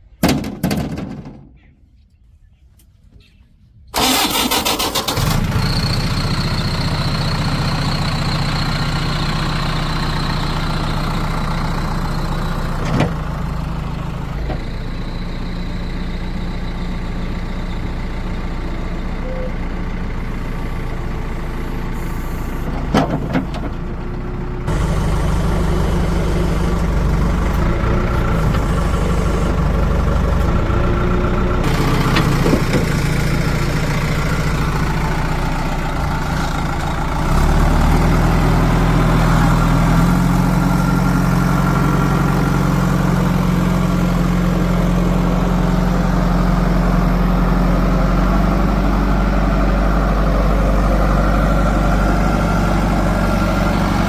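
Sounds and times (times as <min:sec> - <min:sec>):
diesel engine of heavy machinery: 0:03.9 - 0:54.0.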